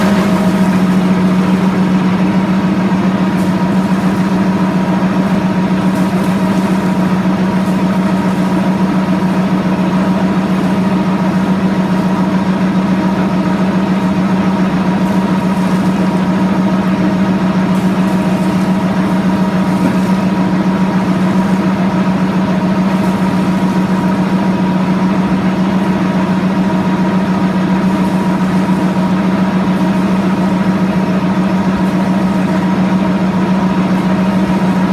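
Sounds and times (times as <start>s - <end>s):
engine humming steadily: 0.0s - 34.9s
water rushing: 0.0s - 34.9s.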